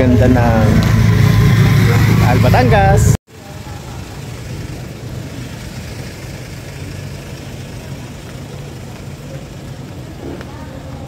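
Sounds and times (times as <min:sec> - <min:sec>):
engine idling hum: 0:00.0 - 0:11.0
outdoor background noise: 0:00.0 - 0:11.0.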